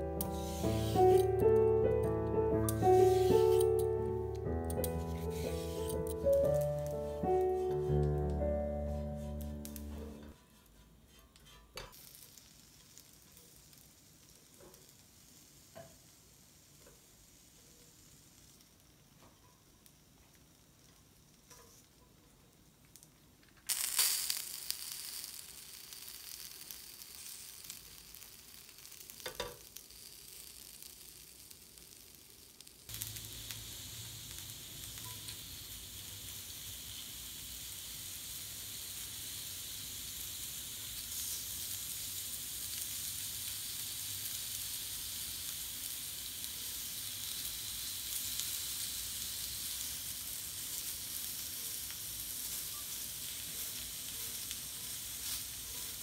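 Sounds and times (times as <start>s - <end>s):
vegetables sizzling in grill pan: 0.0s - 10.4s, 11.9s - 21.4s, 23.7s - 56.0s.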